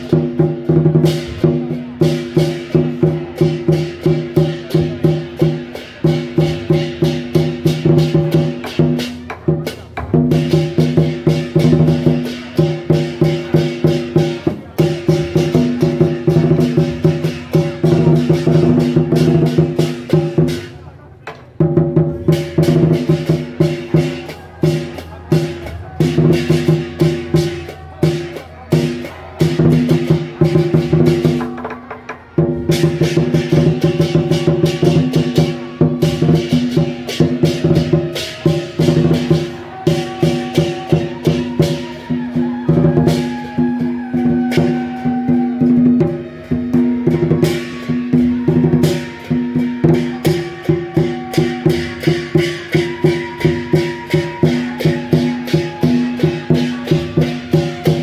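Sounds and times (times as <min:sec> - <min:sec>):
drums and cymbals beating: 0:00.0 - 0:58.0.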